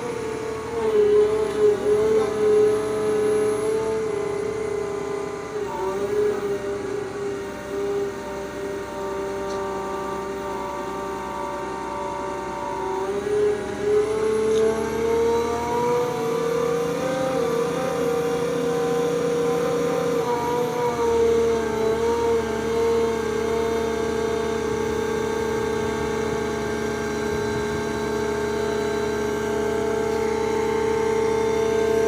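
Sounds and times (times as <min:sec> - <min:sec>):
concrete pump engine running: 0:00.0 - 0:32.0.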